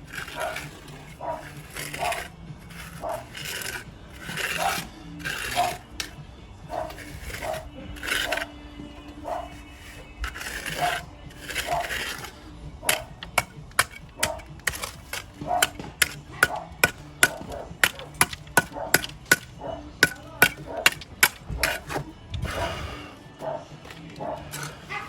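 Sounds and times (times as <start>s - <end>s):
rushing scraping noise: 0.0s - 23.6s, 24.2s - 25.0s.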